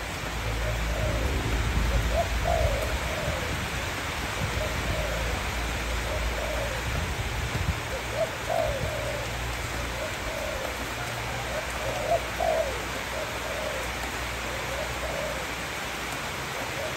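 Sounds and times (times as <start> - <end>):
dove cooing: 0.0 - 16.9.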